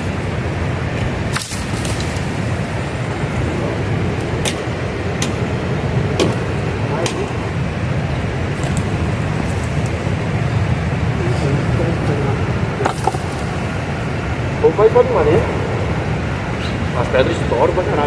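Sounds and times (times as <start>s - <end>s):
river rapids rushing: 0.0s - 18.0s.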